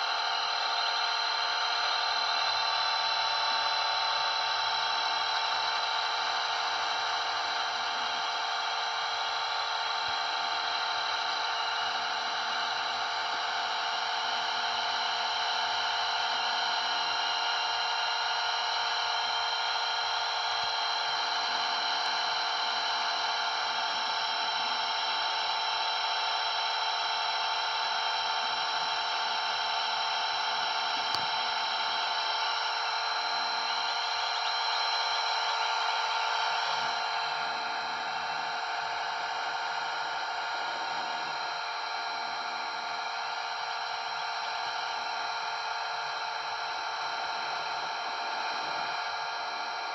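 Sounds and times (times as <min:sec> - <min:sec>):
rc helicopter whine: 0:00.0 - 0:49.9.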